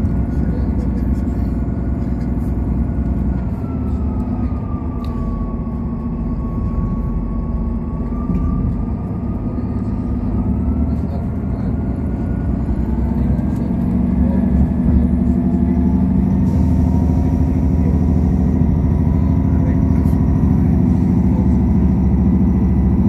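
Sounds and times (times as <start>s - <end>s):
train running gear rumble: 0.0s - 23.0s
train whine: 0.0s - 23.0s.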